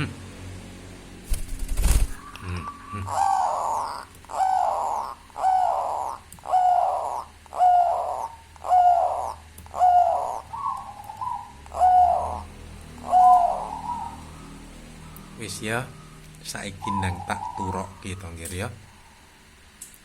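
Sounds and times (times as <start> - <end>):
dove cooing: 1.5 - 19.4.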